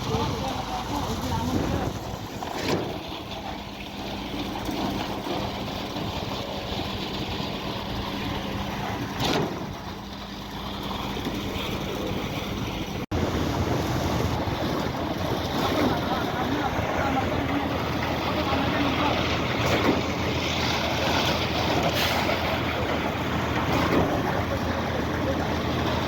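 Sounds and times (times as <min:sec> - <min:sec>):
concrete pump truck humming: 0:00.0 - 0:26.0.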